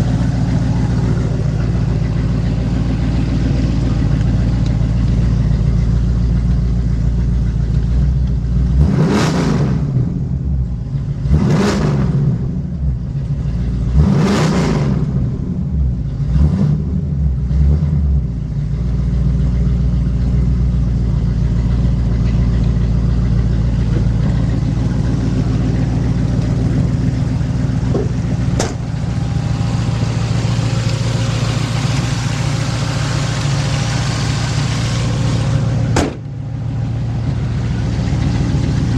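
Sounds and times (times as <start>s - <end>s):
car engine revving: 0.0s - 18.6s, 20.0s - 38.9s
car engine idling: 0.0s - 38.9s.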